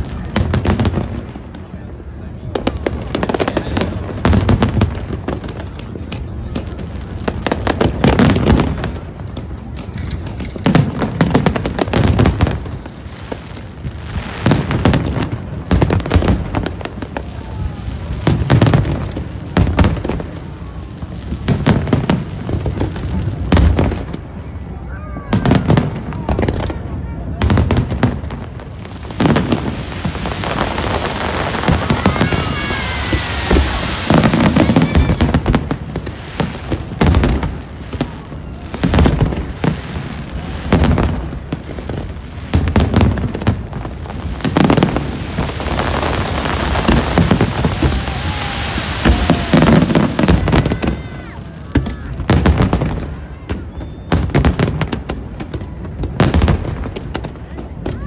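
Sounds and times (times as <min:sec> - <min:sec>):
fireworks bangs and booms: 0:00.0 - 0:58.0
fireworks crackle: 0:00.0 - 0:58.0.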